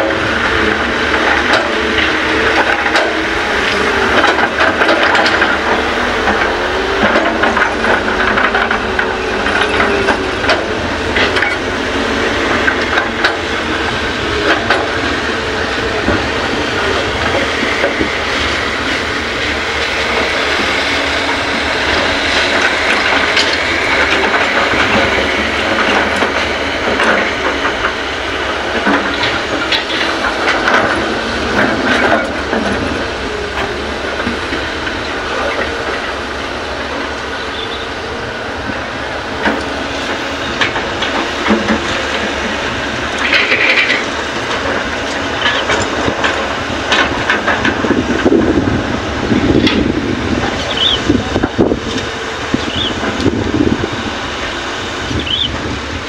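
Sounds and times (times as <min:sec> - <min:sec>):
knocks and clanks: 0:00.0 - 0:11.8, 0:12.4 - 0:36.2, 0:38.6 - 0:53.8
diesel excavator running: 0:00.0 - 0:56.0.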